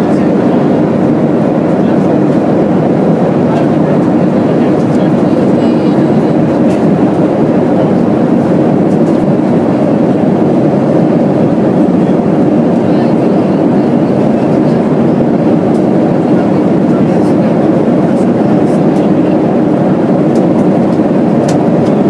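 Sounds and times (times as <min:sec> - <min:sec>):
airplane cabin engine and airflow noise: 0:00.0 - 0:22.0.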